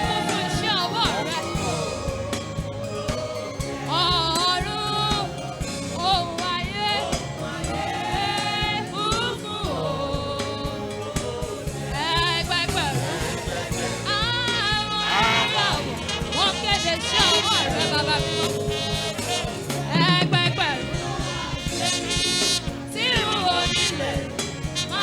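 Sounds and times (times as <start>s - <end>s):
gospel choir singing: 0.0s - 25.0s
instrumental accompaniment: 0.0s - 25.0s.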